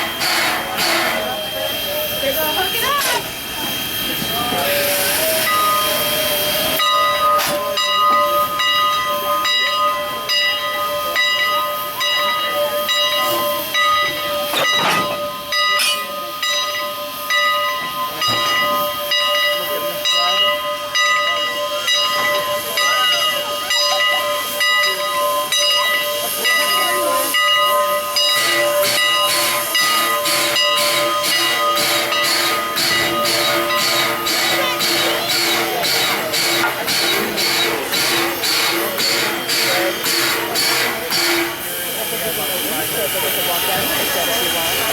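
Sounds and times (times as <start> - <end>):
steam locomotive hissing steam: 0.0 - 44.9.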